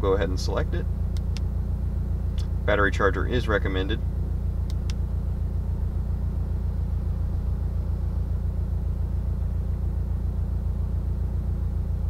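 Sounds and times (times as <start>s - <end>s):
steady pulsing low rumble: 0.0s - 12.0s.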